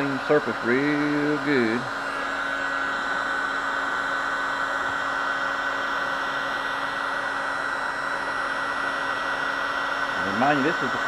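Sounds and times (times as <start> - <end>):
heat gun fan blowing: 0.0 - 11.0.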